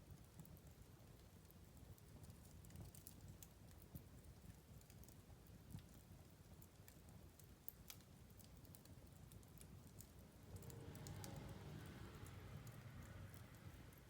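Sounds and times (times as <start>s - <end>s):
low rumble of burning: 0.0s - 14.0s
wood fire crackling: 0.0s - 14.0s.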